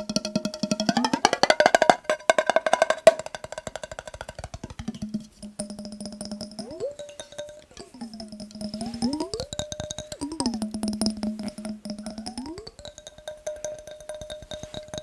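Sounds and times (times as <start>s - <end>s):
tapping on glass jar of water: 0.0s - 15.0s.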